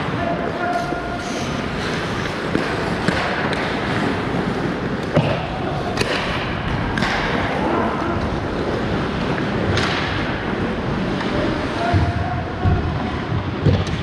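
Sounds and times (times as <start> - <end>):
hockey sticks and puck clacking: 0.0 - 14.0
skates scraping on ice: 0.0 - 14.0.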